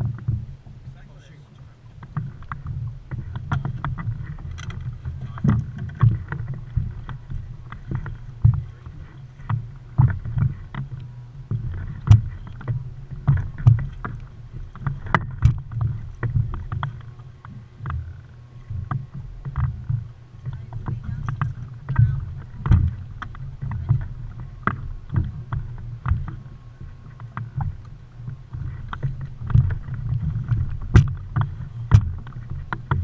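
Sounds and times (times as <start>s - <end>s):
knocks and clicks of fishing gear: 0.0s - 1.0s, 1.9s - 33.0s
steady low rumble: 0.0s - 33.0s
water slapping boat hull: 0.0s - 33.0s.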